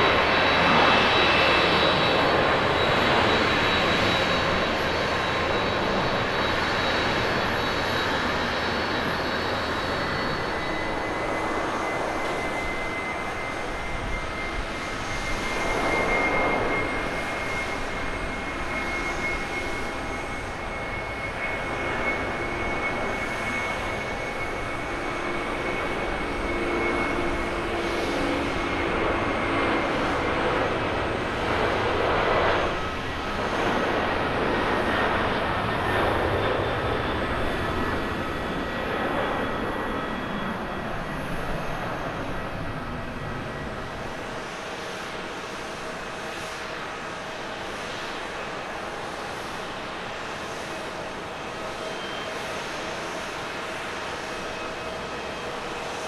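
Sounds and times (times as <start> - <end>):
jet engines roaring with whine: 0.0 - 56.0.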